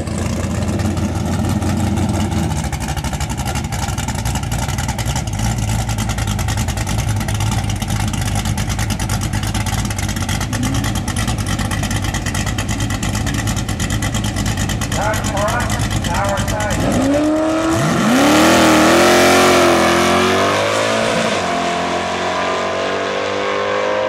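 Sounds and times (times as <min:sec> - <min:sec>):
car engine idling loudly: 0:00.0 - 0:20.4.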